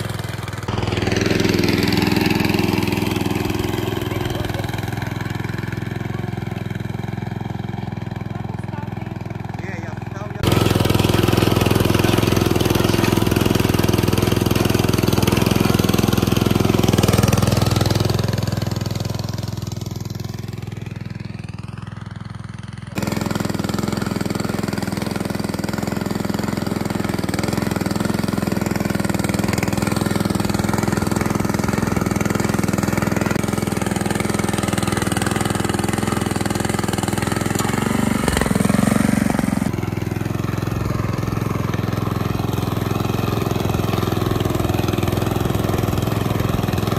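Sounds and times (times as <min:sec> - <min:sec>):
small engine running under load: 0:00.0 - 0:46.9.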